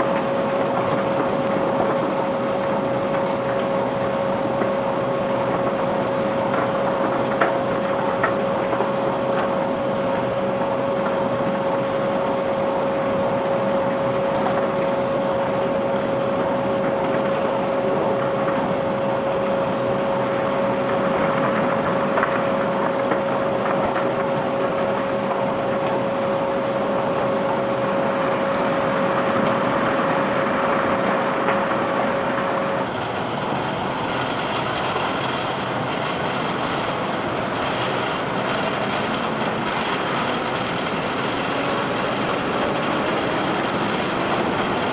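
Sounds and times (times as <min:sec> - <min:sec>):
conveyor belt machinery running: 0:00.0 - 0:44.9
steady machine whine: 0:00.0 - 0:44.9.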